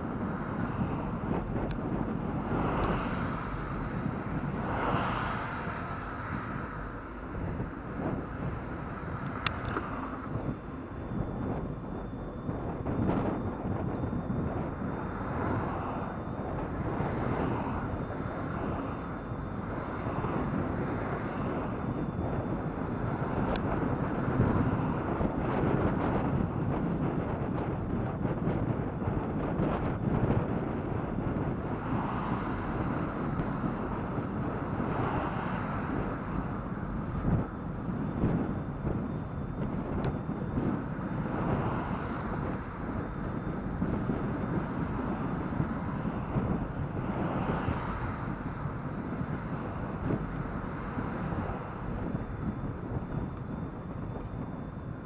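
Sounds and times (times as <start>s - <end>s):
tyre and ride noise: 0.0s - 55.0s
wind rush over microphone: 0.0s - 55.0s.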